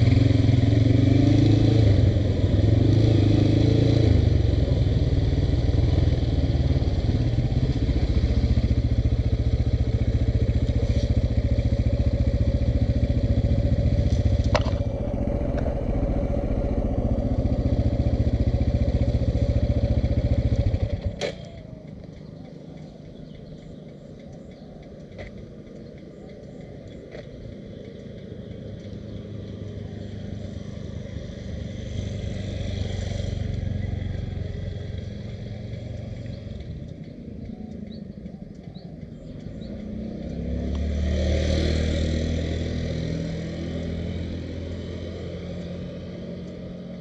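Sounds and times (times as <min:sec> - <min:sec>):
background traffic noise: 0:00.0 - 0:47.0
vehicles passing close by: 0:00.0 - 0:47.0.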